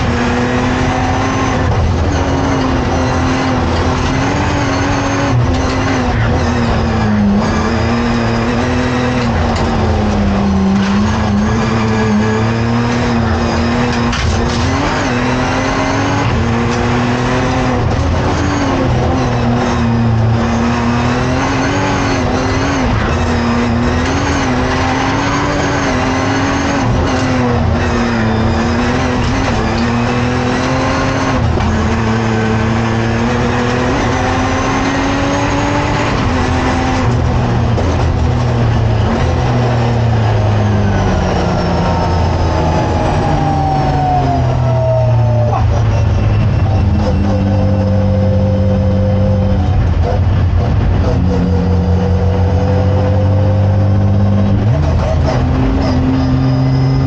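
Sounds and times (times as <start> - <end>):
car engine revving hard: 0.0 - 57.0
gear changes: 0.0 - 57.0.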